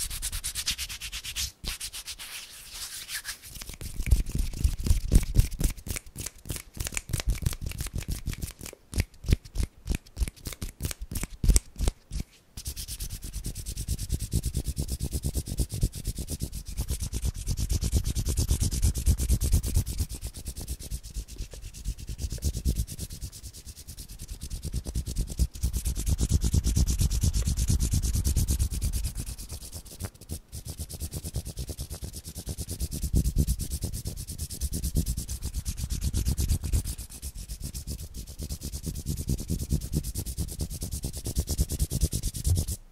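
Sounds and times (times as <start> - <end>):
hands rubbing together: 0.0 - 42.8.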